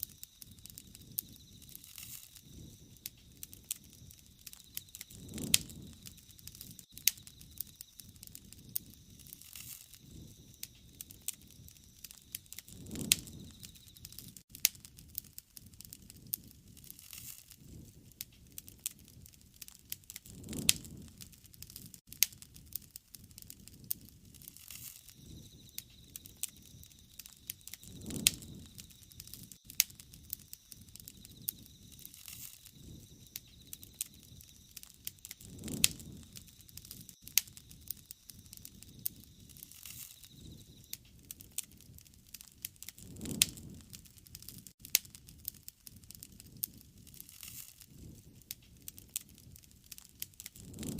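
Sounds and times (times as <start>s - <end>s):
soft low rush of fire: 0.0s - 50.9s
wood fire crackling: 0.0s - 50.9s.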